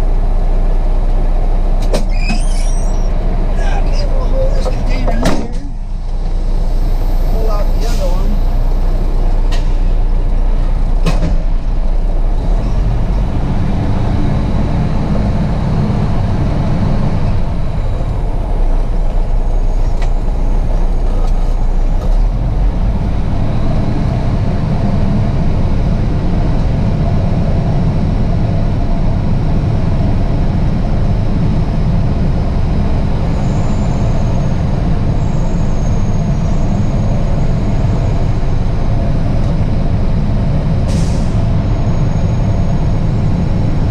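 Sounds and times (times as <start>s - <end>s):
diesel truck engine rumble: 0.0s - 43.9s.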